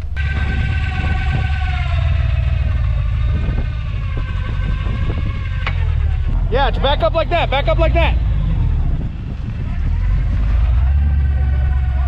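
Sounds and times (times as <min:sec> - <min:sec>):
truck engine at high revs: 0:00.0 - 0:12.0
wind rumble on microphone: 0:00.0 - 0:12.0.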